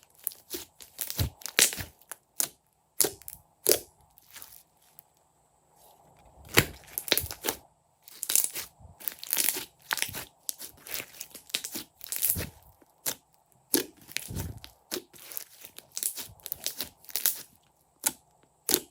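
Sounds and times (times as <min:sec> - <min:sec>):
slime crackling and popping: 0:00.1 - 0:04.6, 0:06.5 - 0:18.9.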